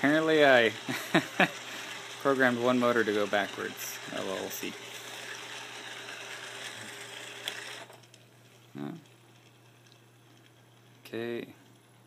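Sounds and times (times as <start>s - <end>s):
robot drive motors whirring: 0.0s - 11.0s
wheels running on carpet: 0.0s - 12.0s.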